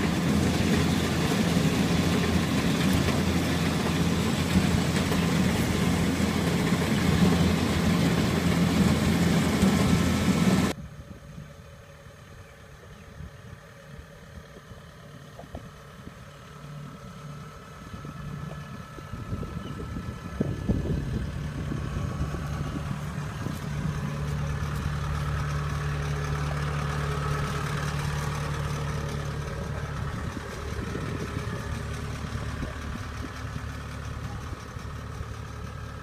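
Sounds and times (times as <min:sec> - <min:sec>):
diesel engine humming: 0:00.0 - 0:36.0.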